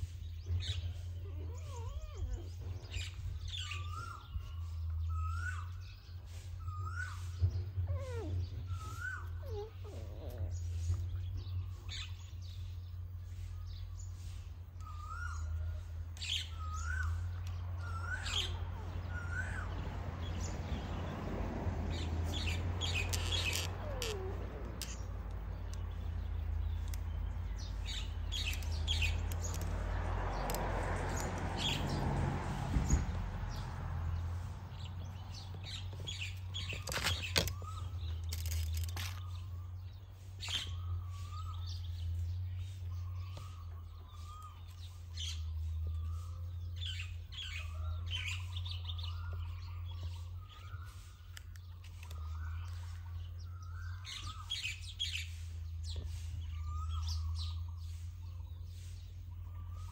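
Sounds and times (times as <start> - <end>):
small bird chirping: 0.0 - 21.0, 21.9 - 32.0, 32.8 - 59.9.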